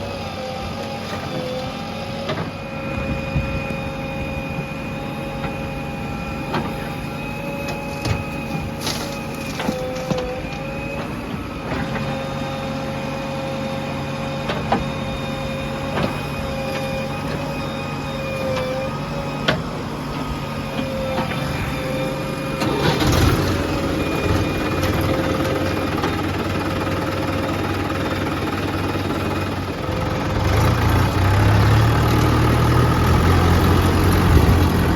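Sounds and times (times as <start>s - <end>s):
diesel engines working: 0.0s - 34.9s
wavering engine whine: 0.0s - 34.9s.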